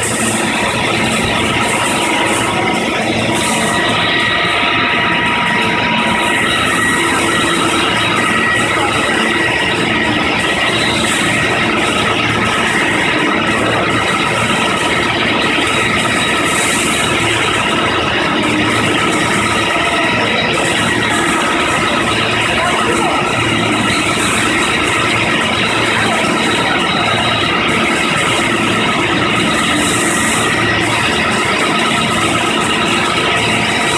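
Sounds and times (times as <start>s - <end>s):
meat slicer running: 0.0s - 33.9s.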